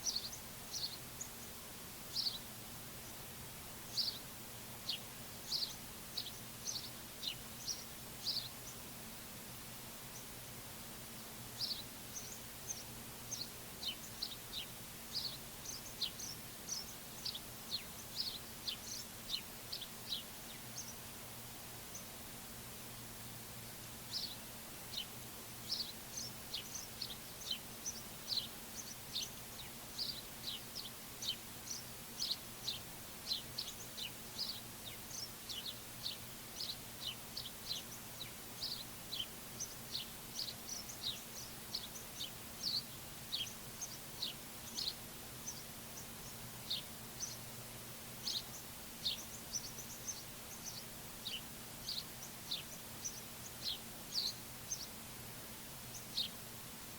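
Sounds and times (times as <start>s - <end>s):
faint steady low hum: 0.0s - 56.9s
small songbirds chirping: 0.0s - 56.9s.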